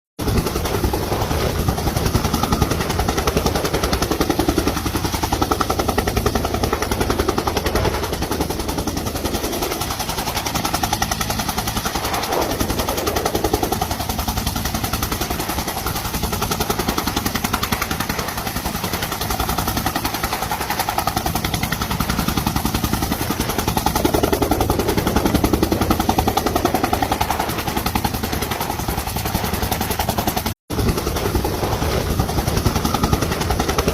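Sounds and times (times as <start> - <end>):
helicopter rotor chopping: 0.2 - 33.9
turbine noise: 0.2 - 33.9.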